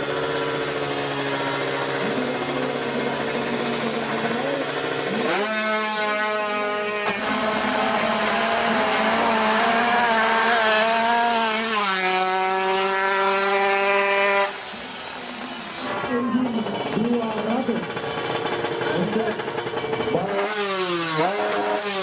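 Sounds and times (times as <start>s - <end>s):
motorcycle engine revving high: 0.0s - 22.0s.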